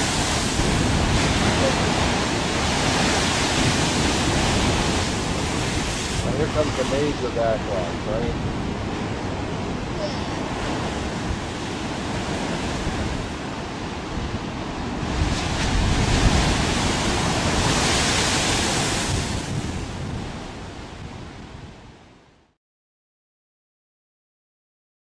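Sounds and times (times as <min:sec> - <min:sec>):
waves crashing on rocks: 0:00.0 - 0:21.6.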